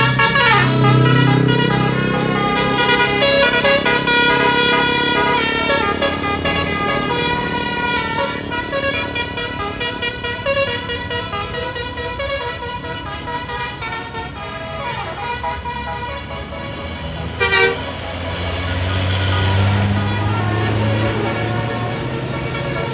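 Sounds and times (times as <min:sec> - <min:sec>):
low engine rumble: 0:00.0 - 0:22.9
multi-tone musical air horn: 0:00.0 - 0:22.9.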